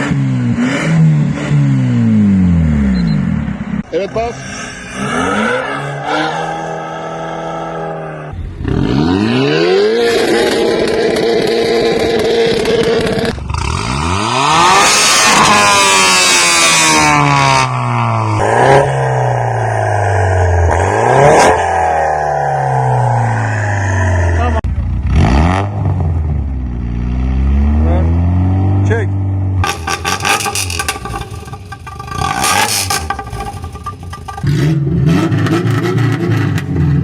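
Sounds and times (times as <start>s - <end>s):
loud engine revving: 0.0s - 26.3s, 27.0s - 37.0s.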